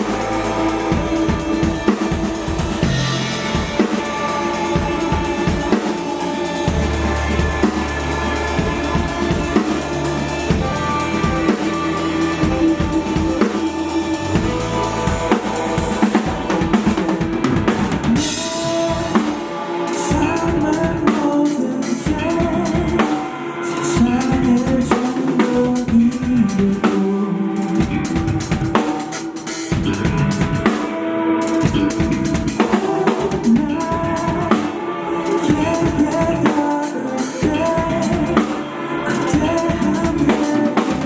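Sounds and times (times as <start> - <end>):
drum kit beat: 0.0 - 41.0
live band playing: 0.0 - 41.0.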